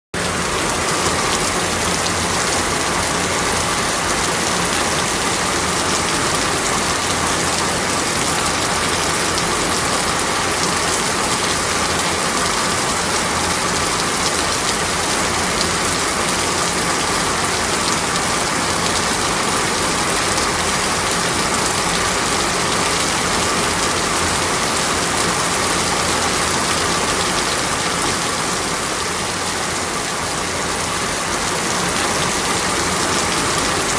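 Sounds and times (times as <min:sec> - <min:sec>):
rain hissing on a window: 0:00.2 - 0:33.9.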